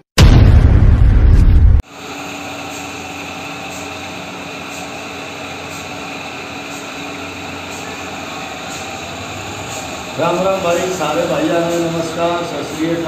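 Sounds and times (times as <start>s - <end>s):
machine hum: 0.2s - 13.0s.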